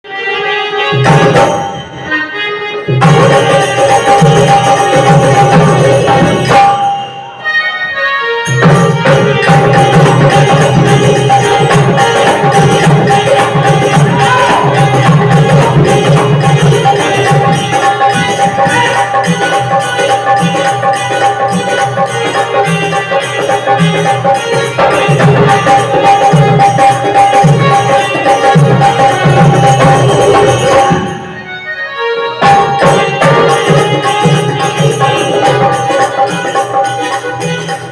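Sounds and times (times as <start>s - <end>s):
held melodic drone: 0.1s - 37.9s
jingling percussion: 0.8s - 37.9s
hand drums: 0.9s - 2.0s, 2.9s - 7.4s, 8.5s - 31.5s, 32.4s - 37.9s.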